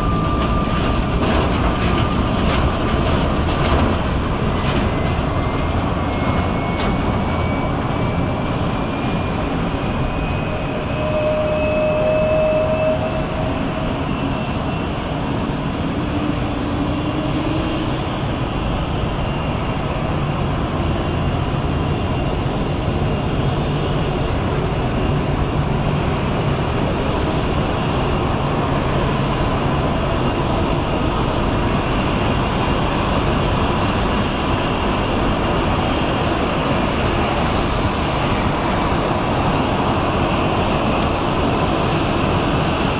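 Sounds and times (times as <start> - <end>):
jet engine rumble and whine: 0.0 - 42.9.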